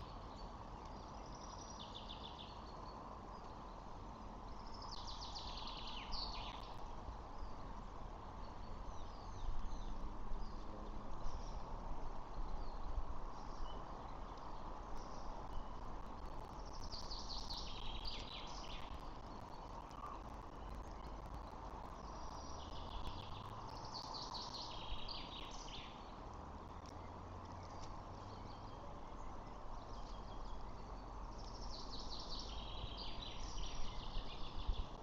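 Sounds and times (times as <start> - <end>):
outdoor background hiss: 0.0 - 35.0
small birds chirping: 0.0 - 35.0.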